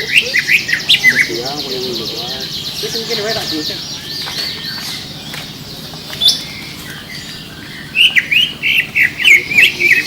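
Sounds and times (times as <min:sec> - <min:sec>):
bird chirping and singing: 0:00.0 - 0:10.0.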